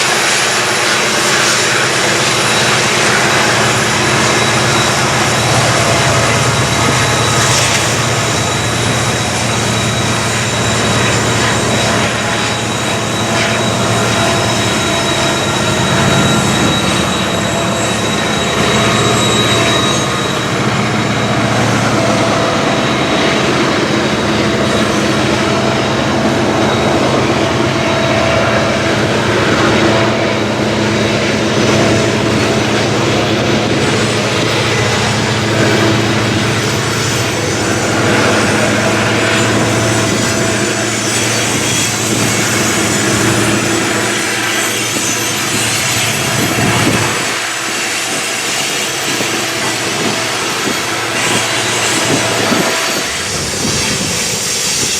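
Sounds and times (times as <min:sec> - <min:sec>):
freight train rolling on track: 0:00.0 - 0:54.9
high wheel squeal: 0:00.0 - 0:54.9.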